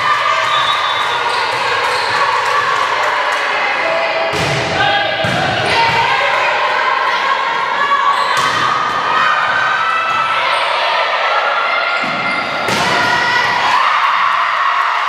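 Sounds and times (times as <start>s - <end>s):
din of players' voices: 0.0s - 15.0s.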